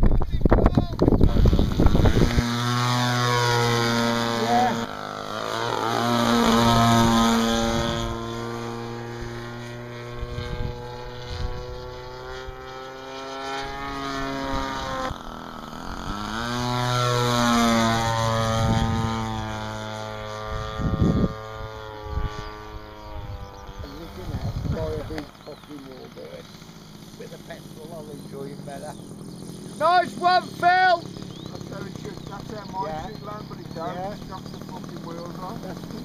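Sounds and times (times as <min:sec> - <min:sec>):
model plane propeller engine: 0:00.0 - 0:36.0.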